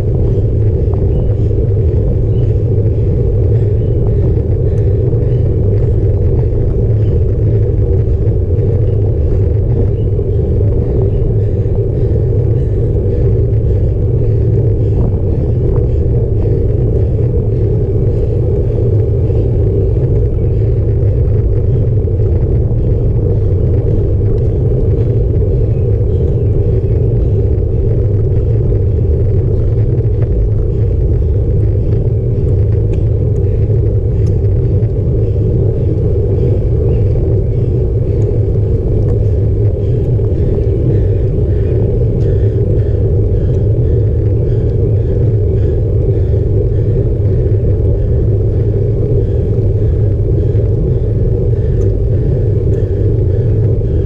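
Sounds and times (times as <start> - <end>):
bike tyre road vibration: 0.0 - 54.0
wind buffeting: 0.0 - 54.0.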